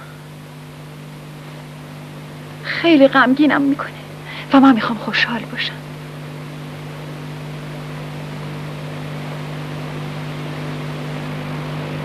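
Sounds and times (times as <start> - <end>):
film soundtrack hiss: 0.0 - 12.0
low electrical hum: 0.0 - 12.0.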